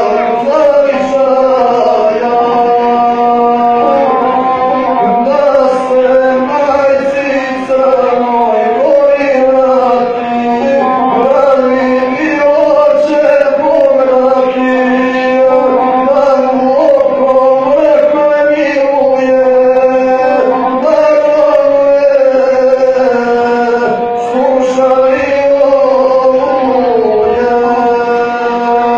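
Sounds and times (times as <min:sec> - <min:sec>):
man chanting epic song: 0:00.0 - 0:28.9.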